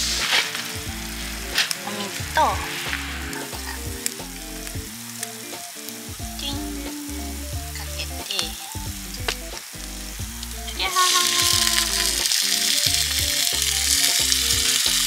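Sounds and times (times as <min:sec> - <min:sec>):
background music: 0:00.0 - 0:15.0
tofu sizzling in a pan: 0:00.0 - 0:15.0.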